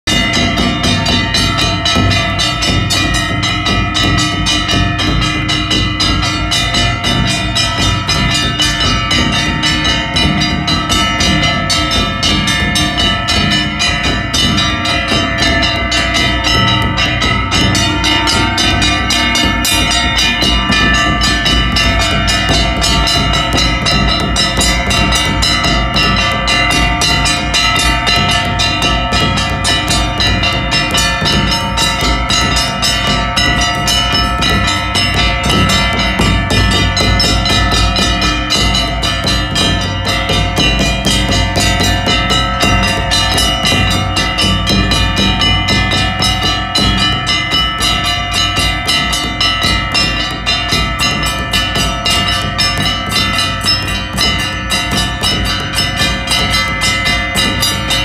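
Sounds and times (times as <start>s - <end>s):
brass gongs ringing: 0.1s - 58.0s
kettle drum beats: 0.1s - 58.0s.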